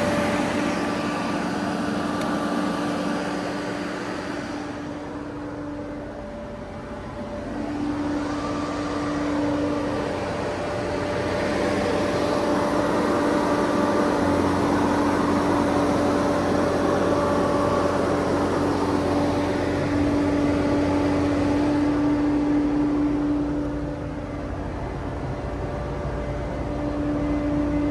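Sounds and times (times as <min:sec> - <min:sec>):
street sweeper engine idling: 0:00.0 - 0:27.9.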